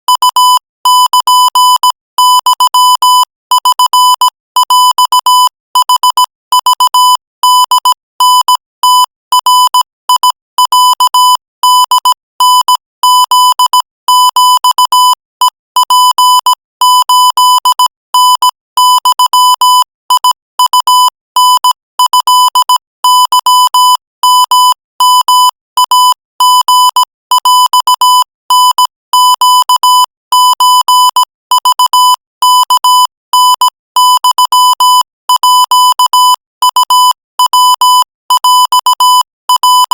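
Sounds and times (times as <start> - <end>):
morse code beeps: 0.1 - 39.9.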